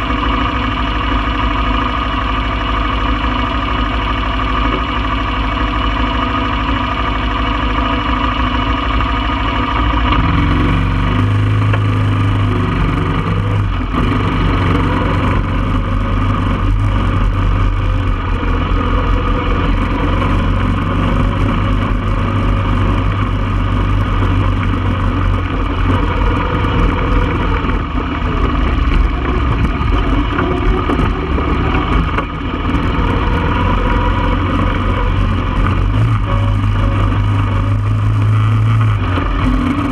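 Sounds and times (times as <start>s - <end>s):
atv engine idling and driving: 0.0s - 39.9s.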